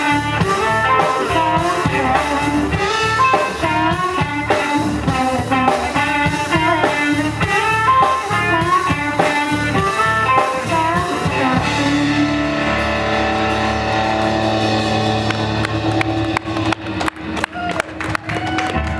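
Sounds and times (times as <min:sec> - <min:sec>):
drum strokes: 0:00.0 - 0:17.4
blues-rock band playing: 0:00.0 - 0:18.9
electric guitar lead lines: 0:00.0 - 0:18.9.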